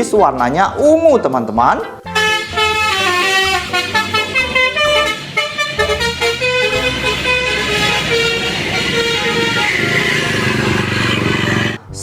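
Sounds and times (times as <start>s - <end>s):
multi-tone bus air horn tune: 2.0s - 11.8s.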